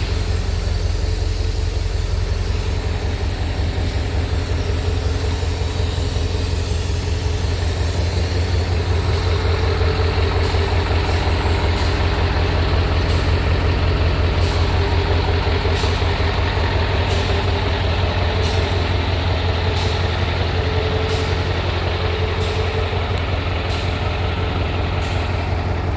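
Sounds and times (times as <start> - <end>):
diesel truck engine idling: 0.0 - 25.9.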